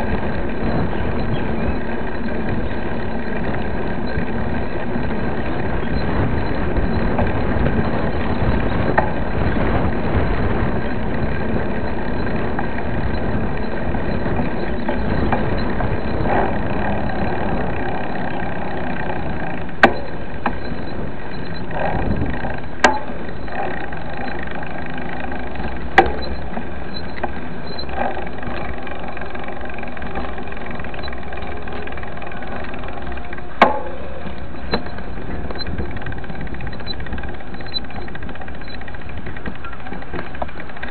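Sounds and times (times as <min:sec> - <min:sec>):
bike rattling over bumps: 0:00.0 - 0:40.9
bike tyre noise: 0:00.0 - 0:40.9
low rumble: 0:00.0 - 0:40.9
wind on microphone: 0:00.0 - 0:40.9.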